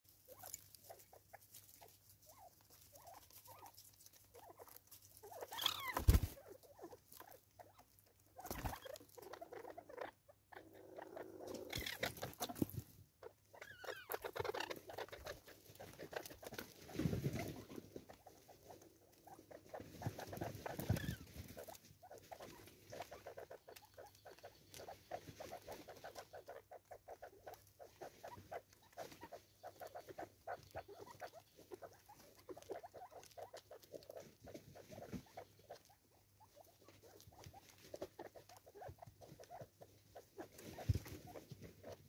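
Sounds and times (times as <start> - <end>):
birds pecking at feeder: 0.1 - 42.0
soft clucks and chirps: 0.1 - 42.0.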